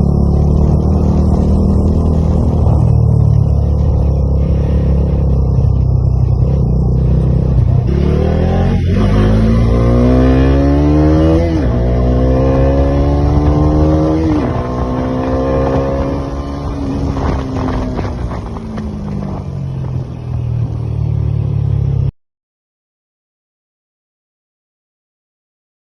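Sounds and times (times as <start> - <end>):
motorcycle engine accelerating: 0.0 - 22.1.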